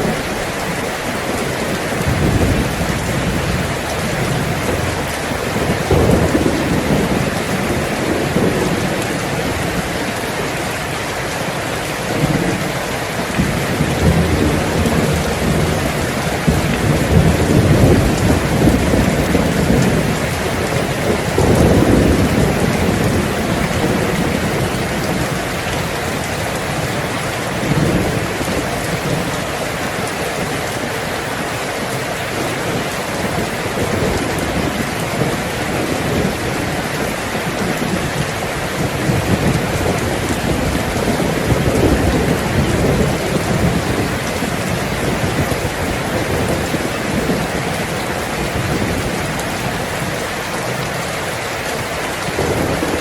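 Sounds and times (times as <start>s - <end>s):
heavy rain on a tin roof: 0.0s - 53.0s
thunder rumbling: 0.0s - 53.0s.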